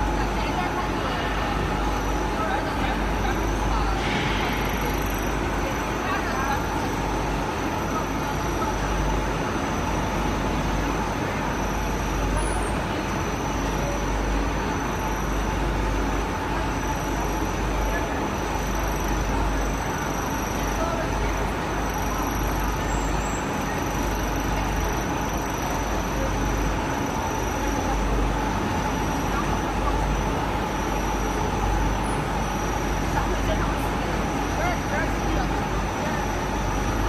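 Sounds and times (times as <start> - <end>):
faint steady machine whine: 0.0 - 37.0
industrial machinery rumble: 0.0 - 37.0.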